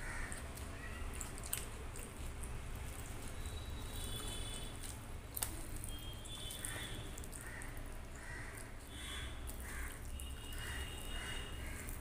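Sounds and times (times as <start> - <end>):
hand mixing food on steel plate: 0.0 - 12.0.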